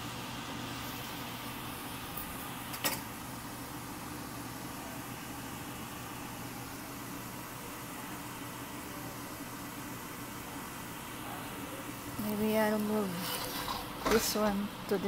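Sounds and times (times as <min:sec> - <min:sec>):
range hood blower humming: 0:00.0 - 0:15.0.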